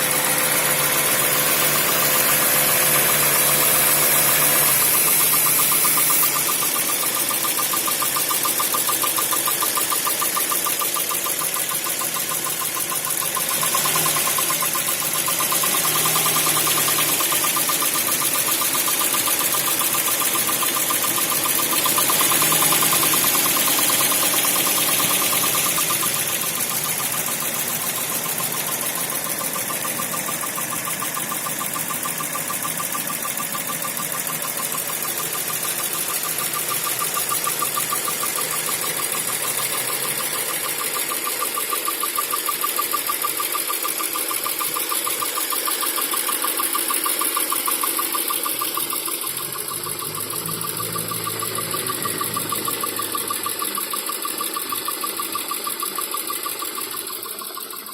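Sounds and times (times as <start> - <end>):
car engine running: 0.0 - 57.9
fast metallic engine ticking: 0.0 - 57.9.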